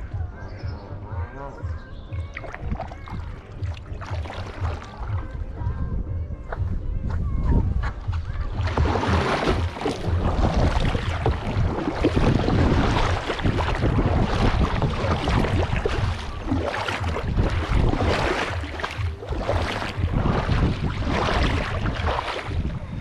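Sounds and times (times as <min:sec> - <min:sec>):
wind buffeting microphone: 0:00.0 - 0:23.0
water splashing around kayak: 0:02.2 - 0:05.7, 0:07.9 - 0:23.0.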